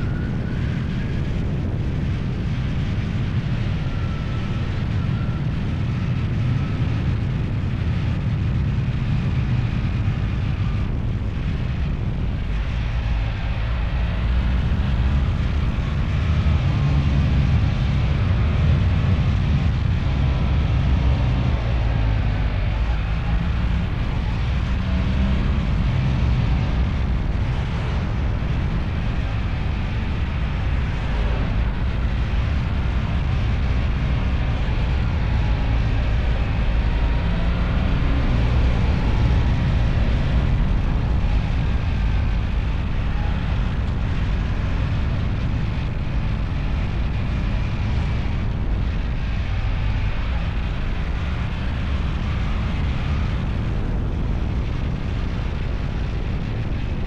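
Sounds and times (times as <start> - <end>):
road noise: 0.0 - 57.0
vehicle engine rumble: 0.0 - 57.0
wind noise: 0.0 - 57.0.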